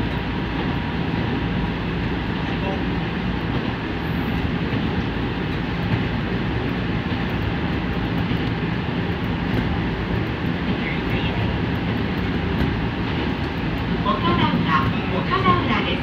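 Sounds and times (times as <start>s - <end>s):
electric train running noise: 0.0s - 16.0s.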